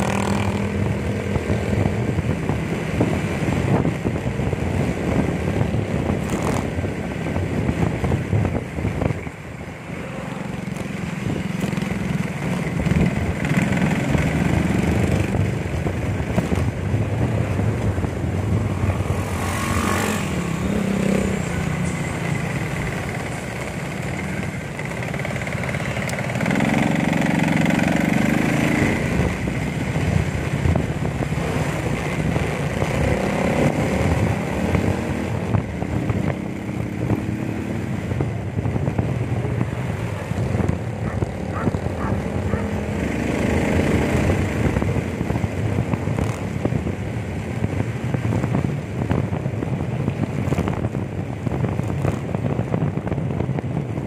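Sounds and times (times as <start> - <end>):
road traffic: 0.0 - 54.0
wind on microphone: 0.0 - 54.0.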